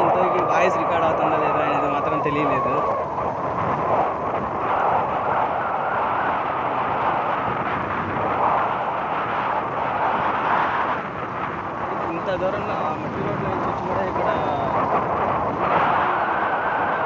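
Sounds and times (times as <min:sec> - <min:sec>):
vehicle moving on dirt track: 0:00.0 - 0:17.0
wind rushing: 0:00.0 - 0:17.0.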